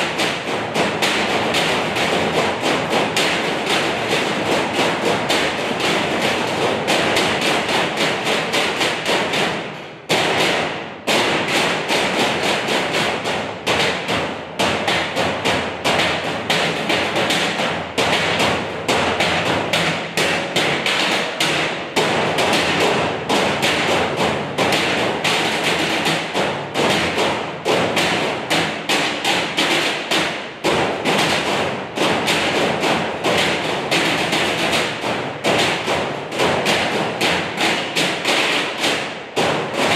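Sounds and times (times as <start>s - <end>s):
drumsticks beating metal trash cans: 0.0s - 39.9s.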